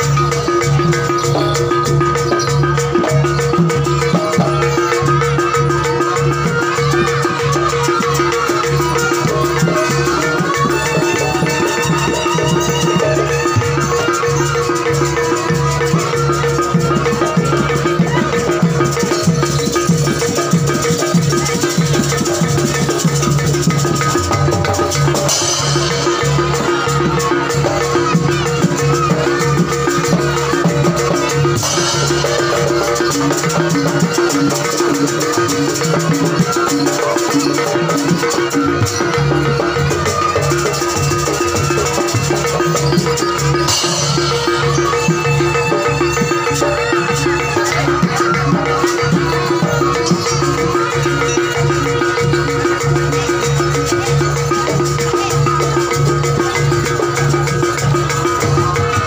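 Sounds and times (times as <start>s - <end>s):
drums and percussion: 0.0s - 59.0s
gamelan ensemble music: 0.0s - 59.0s.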